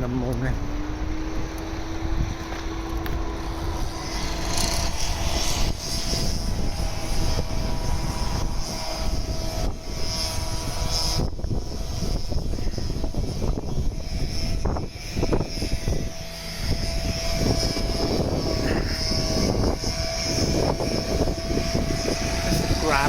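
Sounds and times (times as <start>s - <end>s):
engine drone: 0.0s - 23.0s
wind noise on microphone: 0.0s - 23.0s.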